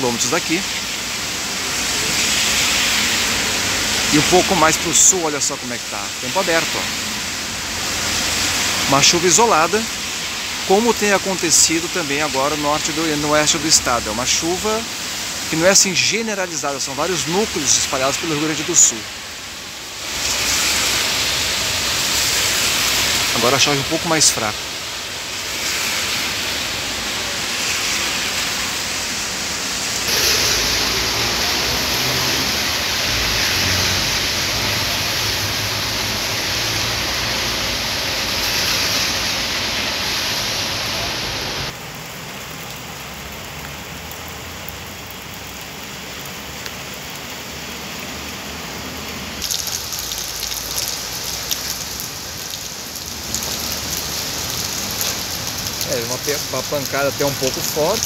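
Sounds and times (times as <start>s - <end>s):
steady rain hiss: 0.0s - 58.0s
drops splashing on wet paving: 0.1s - 58.0s.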